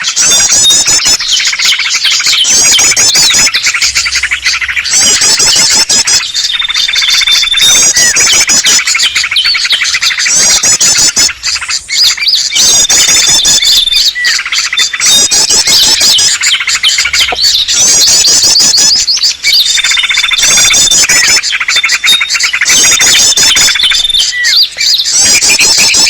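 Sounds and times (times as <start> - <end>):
bulbul chatter: 0.0 - 26.0
songbirds chirping and trilling: 0.0 - 26.0.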